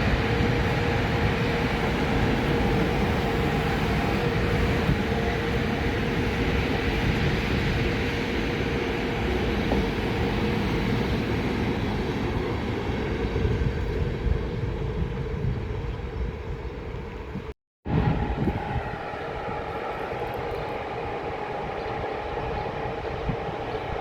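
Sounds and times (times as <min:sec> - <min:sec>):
train rumbling and rolling: 0:00.0 - 0:24.0.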